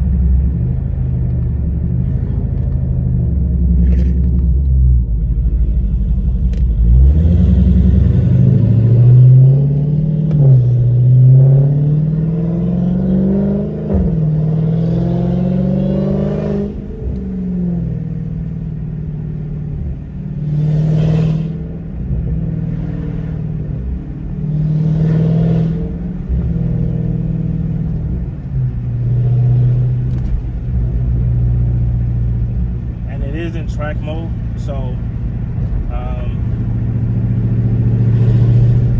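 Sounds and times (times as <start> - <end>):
car engine accelerating hard: 1.8 - 18.1, 19.9 - 38.9.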